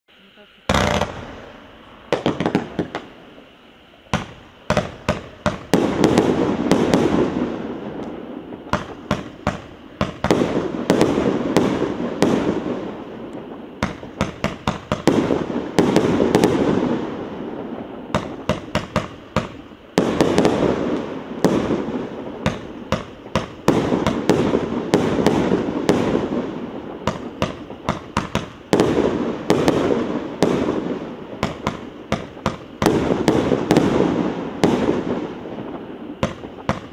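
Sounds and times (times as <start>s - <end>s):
firework crackling: 0.1s - 36.9s
firework shots and bursts: 0.3s - 36.9s.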